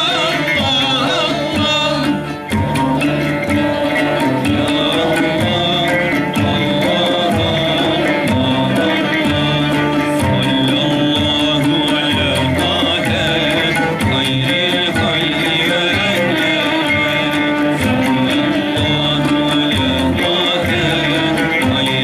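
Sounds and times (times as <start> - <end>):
frame drums beating: 0.0 - 22.0
male choir singing: 0.0 - 22.0
violin: 0.0 - 22.0.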